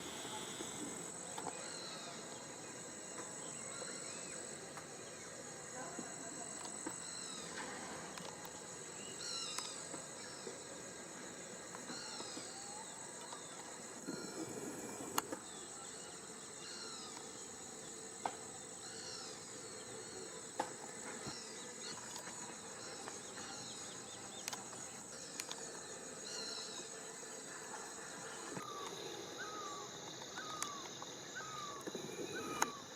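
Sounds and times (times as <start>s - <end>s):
high-pitched insect drone: 0.0s - 32.9s.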